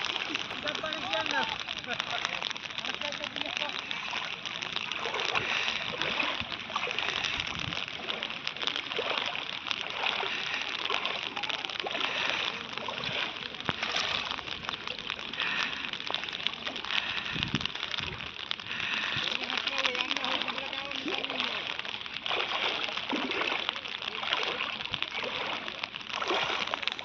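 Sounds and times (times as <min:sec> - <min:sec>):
floodwater rushing and splashing: 0:00.0 - 0:27.0.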